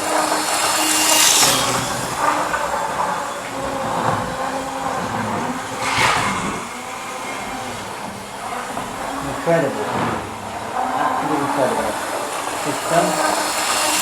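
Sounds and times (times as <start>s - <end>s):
electric motor whine: 0.0s - 14.0s
wheels rattling over rails: 0.0s - 14.0s.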